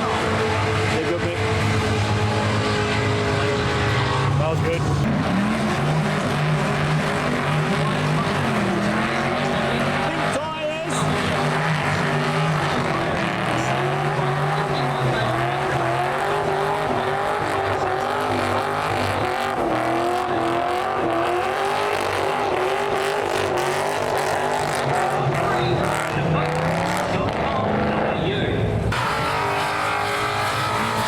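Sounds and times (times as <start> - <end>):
car engine revving high: 0.0 - 31.0
tyres spinning and squealing: 0.0 - 31.0.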